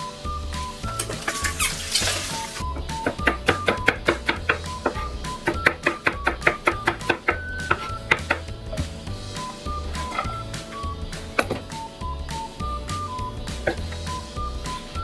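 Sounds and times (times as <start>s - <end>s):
background music with beat: 0.0s - 15.0s.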